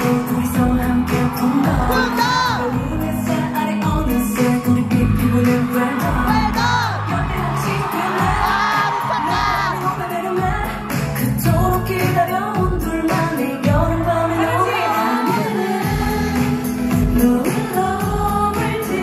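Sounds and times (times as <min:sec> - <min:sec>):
pop backing track with beat: 0:00.0 - 0:19.0
woman singing into microphone: 0:00.0 - 0:19.0.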